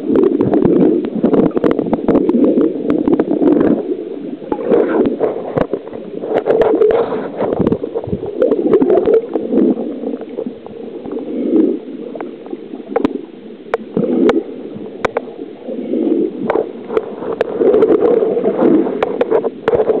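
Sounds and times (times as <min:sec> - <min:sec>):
muffled underwater gurgling: 0:00.0 - 0:20.0.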